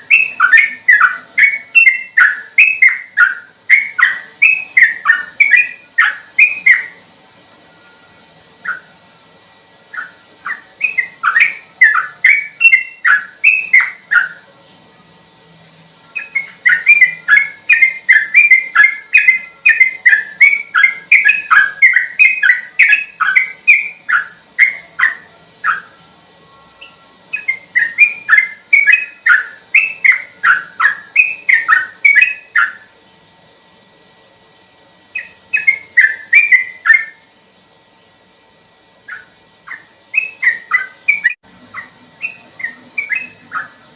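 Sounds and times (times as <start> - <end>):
bird singing rapid chirping notes: 0.0 - 7.1, 8.0 - 9.0, 9.9 - 14.5, 16.0 - 32.9, 35.1 - 37.3, 39.0 - 43.9.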